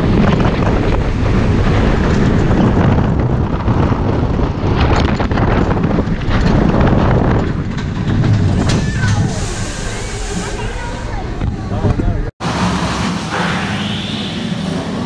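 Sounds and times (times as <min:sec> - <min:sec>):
roller coaster train rumble: 0:00.0 - 0:15.0
wind rushing over microphone: 0:00.0 - 0:15.0.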